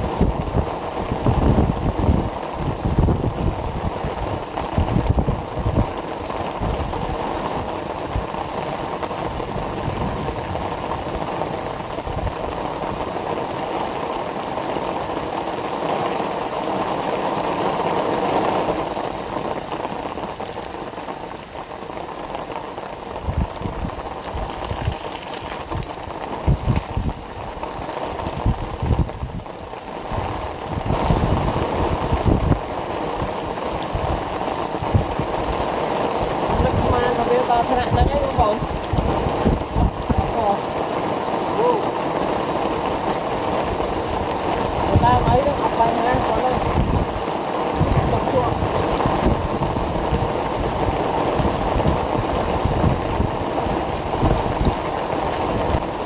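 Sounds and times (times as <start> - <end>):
low rumbling gusts: 0.0 - 56.0
steady rain hiss: 0.0 - 56.0.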